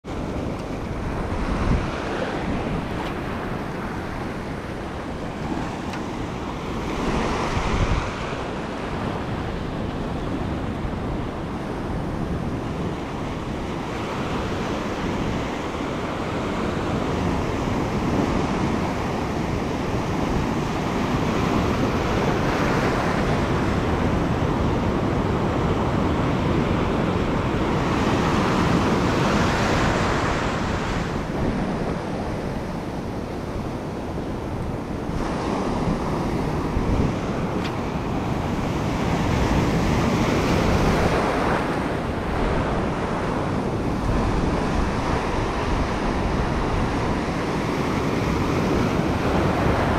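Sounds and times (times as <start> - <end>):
ocean surf breaking on rocks: 0.1 - 49.9.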